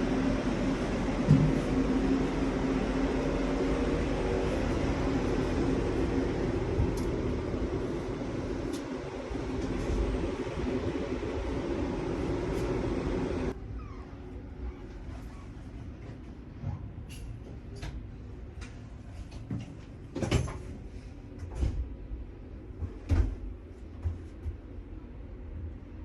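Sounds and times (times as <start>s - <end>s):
mechanical hum and rumble: 0.0s - 26.0s.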